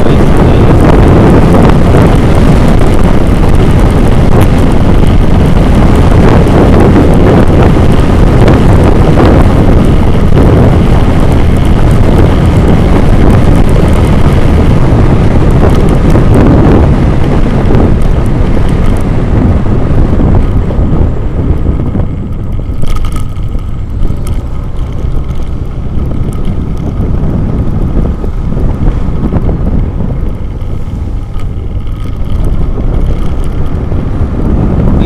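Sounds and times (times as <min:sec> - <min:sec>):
vehicle engine running: 0:00.0 - 0:35.0
wind buffeting microphone: 0:00.0 - 0:35.0.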